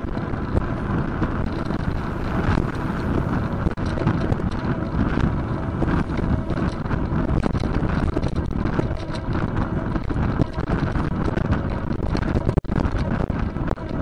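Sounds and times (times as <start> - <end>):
bicycle rattling on road: 0.0 - 14.0
wind buffeting microphone: 0.0 - 14.0.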